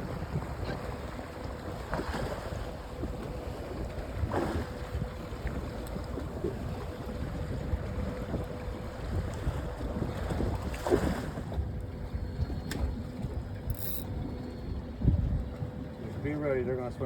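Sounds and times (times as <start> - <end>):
wind buffeting microphone: 0.0 - 16.0
waves on open water: 0.0 - 17.0.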